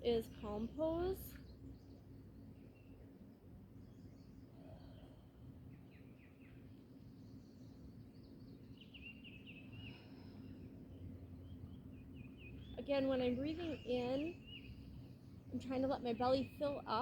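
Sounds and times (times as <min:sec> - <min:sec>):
low steady background hum: 0:00.0 - 0:17.0
small birds chirping: 0:00.0 - 0:17.0.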